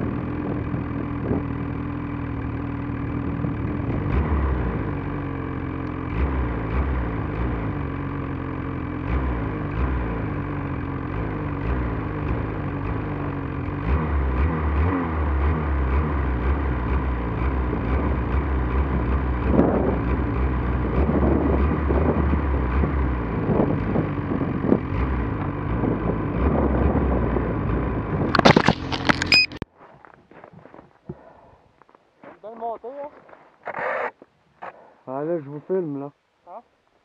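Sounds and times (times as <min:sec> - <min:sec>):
snowmobile engine running: 0:00.0 - 0:29.6.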